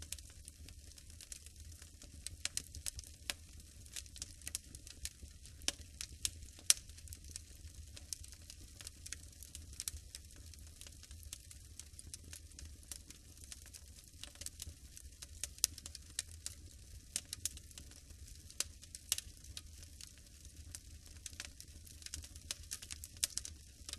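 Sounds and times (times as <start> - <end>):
low steady fire rumble: 0.0 - 23.9
wood fire crackling and popping: 0.0 - 23.9.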